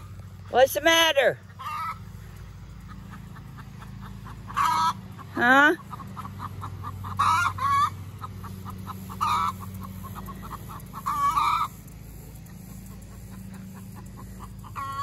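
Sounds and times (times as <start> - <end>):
hens squawking: 0.6 - 15.0
hens clucking softly: 1.4 - 15.0.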